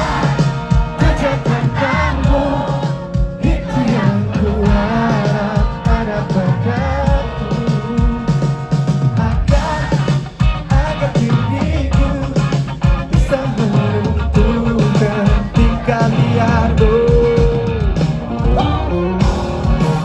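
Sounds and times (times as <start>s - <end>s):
man singing: 0.0s - 19.3s
crowd singing along: 0.0s - 20.0s
rock band playing live: 0.0s - 20.0s.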